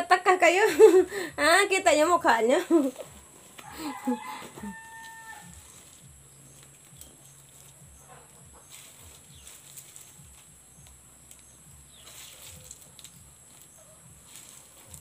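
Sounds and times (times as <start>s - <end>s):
low steady hum: 0.0s - 15.0s
dry leaves rustling: 1.9s - 15.0s.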